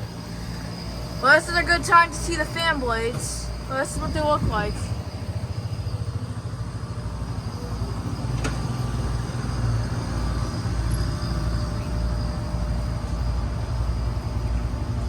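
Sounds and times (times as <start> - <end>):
air conditioner units humming: 0.0 - 15.0.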